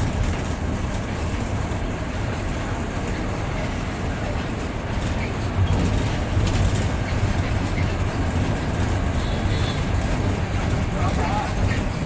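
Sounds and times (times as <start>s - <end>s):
bus body rattle: 0.0s - 12.0s
bus engine and road rumble: 0.0s - 12.0s.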